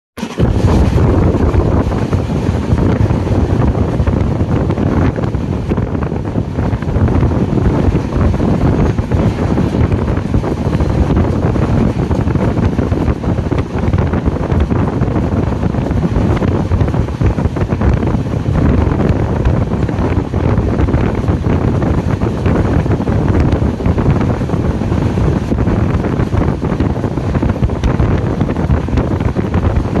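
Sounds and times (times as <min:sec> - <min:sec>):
train coaches rumbling on track: 0:00.2 - 0:30.0
wind buffeting microphone: 0:00.2 - 0:30.0.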